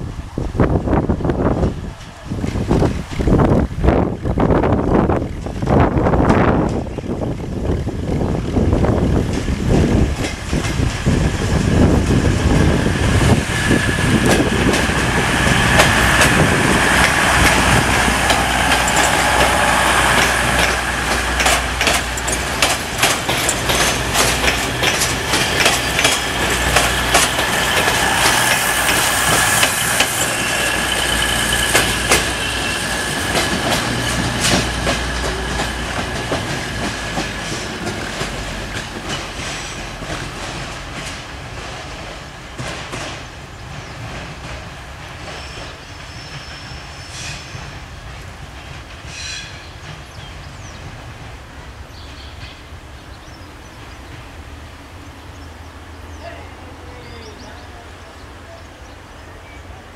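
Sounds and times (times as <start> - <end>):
diesel train engine whine: 0.0 - 59.9
wheels clicking over rail joints: 1.5 - 46.6, 47.2 - 54.4.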